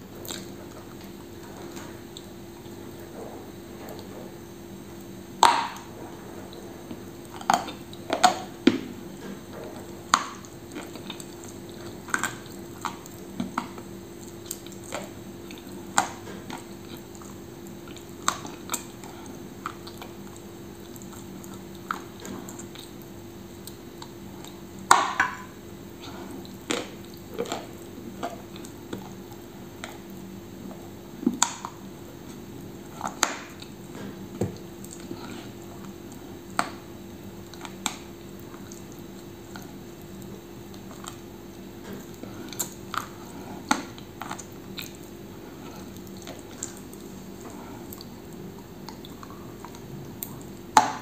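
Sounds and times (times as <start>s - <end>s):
faint steady hum: 0.0s - 51.0s
wet chewing clicks and smacks: 0.2s - 3.1s, 6.5s - 51.0s.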